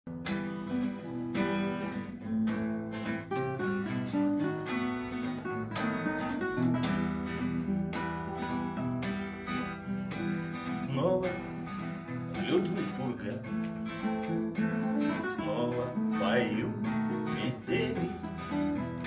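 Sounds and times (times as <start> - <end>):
acoustic guitar strumming: 0.1 - 19.0.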